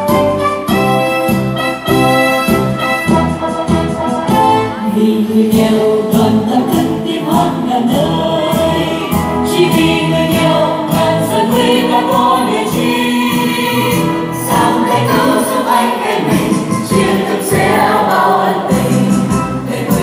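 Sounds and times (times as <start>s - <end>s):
instrumental accompaniment: 0.0s - 20.0s
choir singing a hymn: 3.2s - 20.0s.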